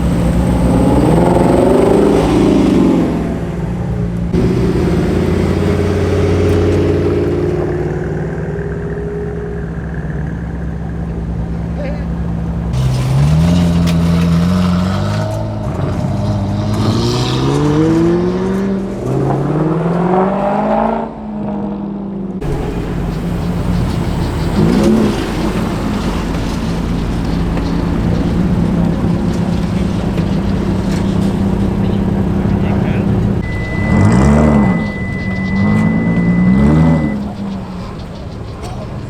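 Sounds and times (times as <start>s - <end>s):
car engine idling: 0.0s - 16.8s, 22.4s - 39.0s
car engine revving: 0.0s - 39.0s.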